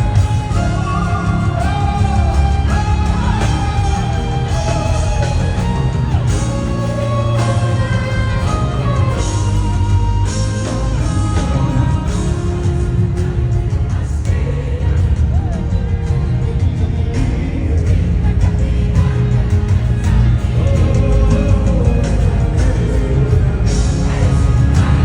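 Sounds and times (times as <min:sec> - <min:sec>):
amplified band with bass: 0:00.0 - 0:25.0
person singing: 0:00.0 - 0:25.0.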